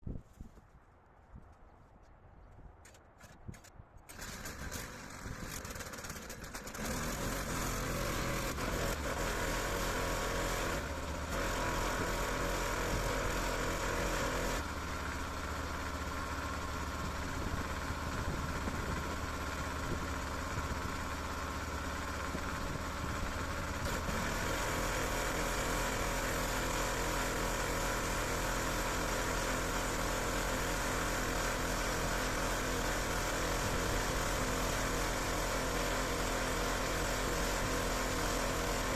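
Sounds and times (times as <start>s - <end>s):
pressure washer motor hum: 4.1s - 38.9s.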